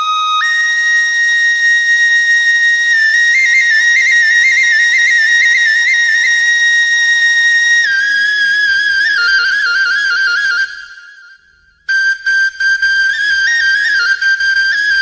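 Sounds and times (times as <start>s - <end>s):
solo flute with trills: 0.0s - 15.0s.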